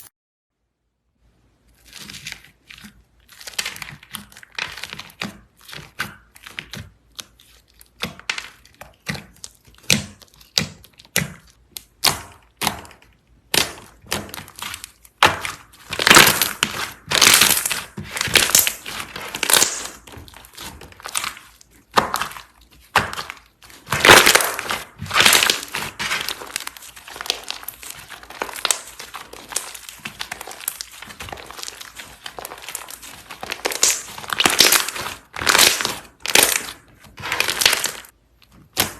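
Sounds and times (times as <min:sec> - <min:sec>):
slime crackling and squishing: 0:01.5 - 0:38.9.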